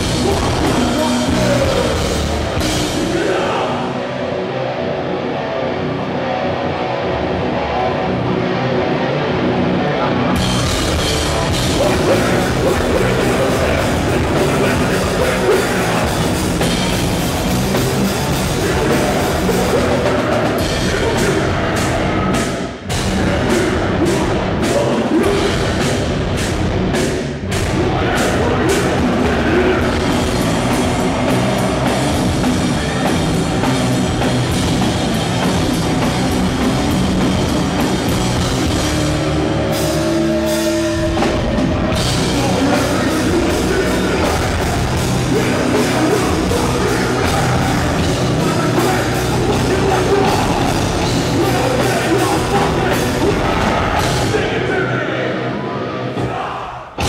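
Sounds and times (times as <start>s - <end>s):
metal band playing live: 0.0s - 57.0s.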